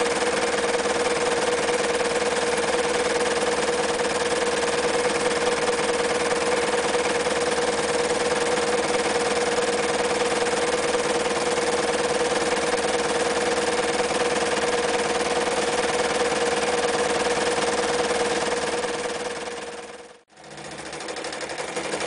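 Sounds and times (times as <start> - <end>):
sewing machine stitching: 0.0 - 22.0.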